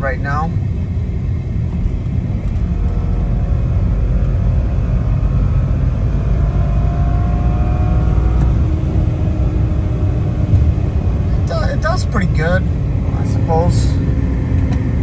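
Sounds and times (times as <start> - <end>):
car engine revving: 0.0 - 15.0
road rumble inside car: 0.0 - 15.0.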